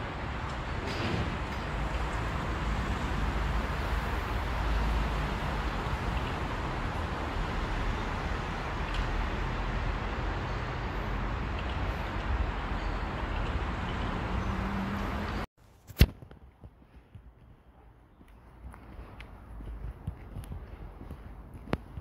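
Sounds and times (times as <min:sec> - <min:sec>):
distant traffic rumble: 0:00.0 - 0:15.5, 0:16.2 - 0:22.0.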